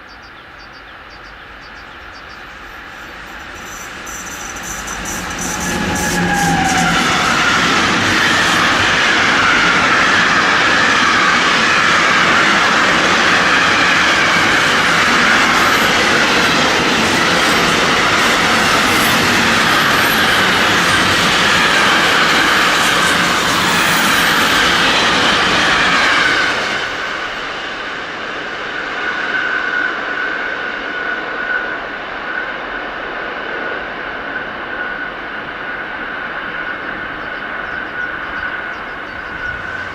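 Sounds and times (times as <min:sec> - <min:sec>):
train passing: 0:00.0 - 0:39.9
whine from the rails: 0:00.0 - 0:39.9.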